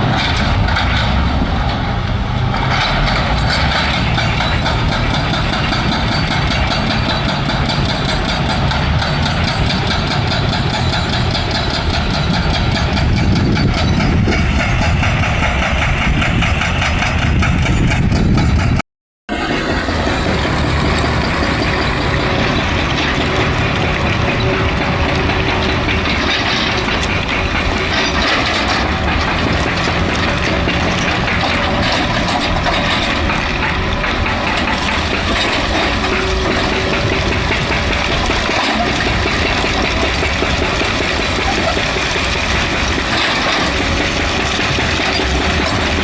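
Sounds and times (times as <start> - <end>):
excavator engine running: 0.0 - 46.0.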